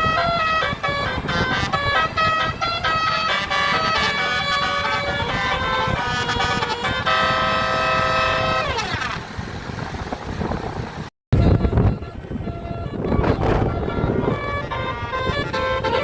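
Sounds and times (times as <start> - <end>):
musical air horn tune: 0.0 - 9.0, 11.4 - 16.0
vehicle rumble: 0.0 - 16.0.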